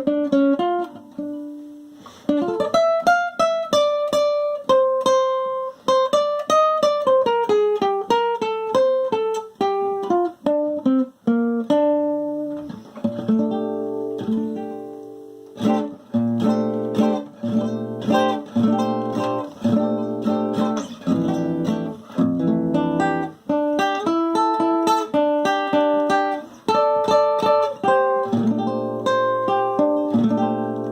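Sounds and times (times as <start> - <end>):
acoustic guitar playing: 0.0 - 30.9.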